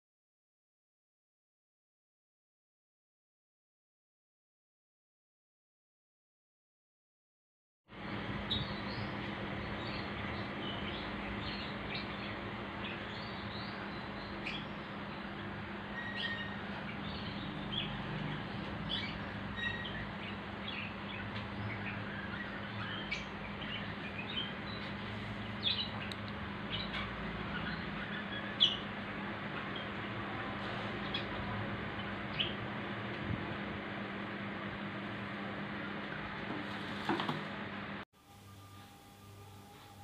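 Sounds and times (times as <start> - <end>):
electric fan running: 7.9 - 40.0.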